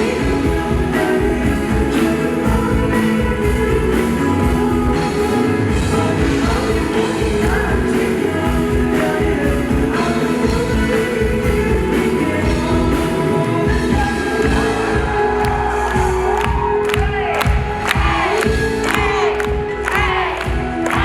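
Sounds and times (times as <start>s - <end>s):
drums: 0.0s - 21.0s
live rock band playing: 0.0s - 21.0s
person singing: 0.0s - 21.0s.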